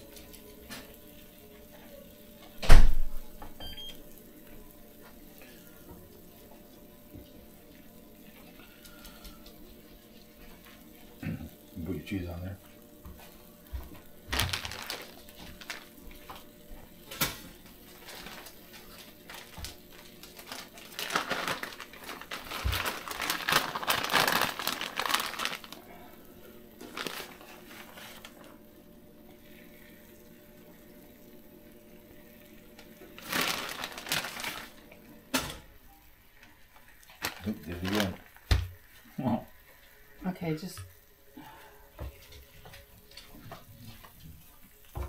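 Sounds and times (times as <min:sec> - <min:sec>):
food sizzling on a griddle: 0:00.0 - 0:33.8, 0:34.4 - 0:45.0.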